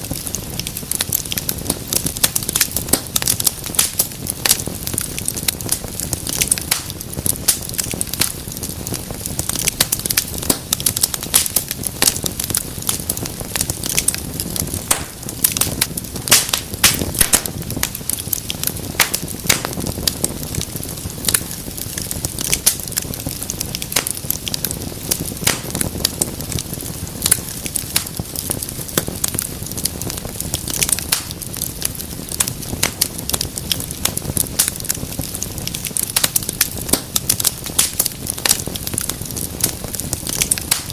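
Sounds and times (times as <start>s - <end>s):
fire crackling in a fireplace: 0.0s - 40.9s.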